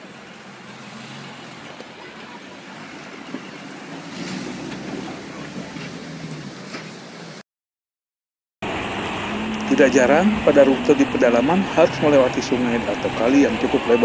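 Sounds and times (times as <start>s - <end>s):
bus engine running: 0.0s - 7.4s, 8.6s - 14.0s
water rushing and splashing: 0.0s - 7.4s, 8.6s - 14.0s.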